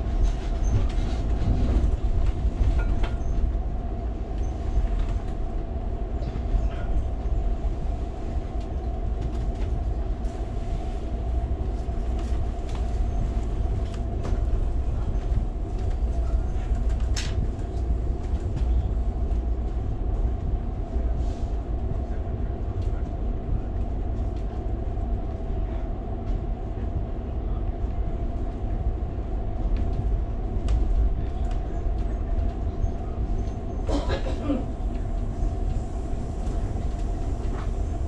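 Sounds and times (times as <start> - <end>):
constant hum: 0.0 - 38.0
train wheels rumbling on rails: 0.0 - 38.0.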